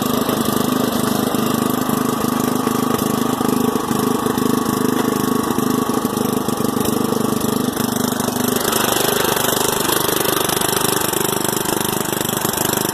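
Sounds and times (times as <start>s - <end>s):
lawn tractor engine running: 0.0s - 12.9s.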